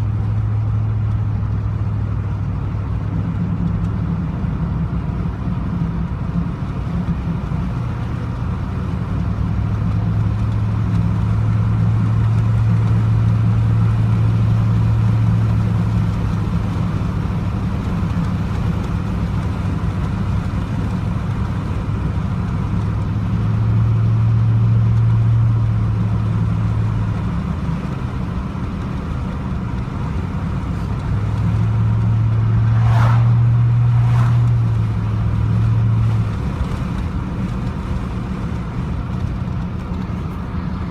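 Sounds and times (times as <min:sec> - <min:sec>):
pickup engine low drone: 0:00.0 - 0:40.9.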